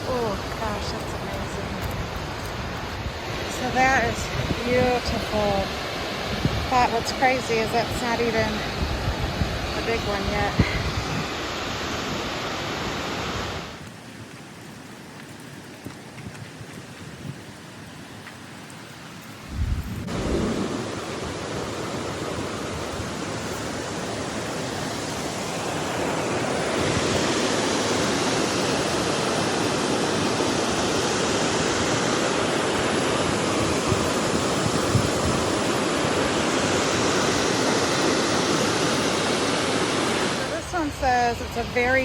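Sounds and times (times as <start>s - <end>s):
waterfall rushing: 0.0s - 13.8s, 20.0s - 42.0s.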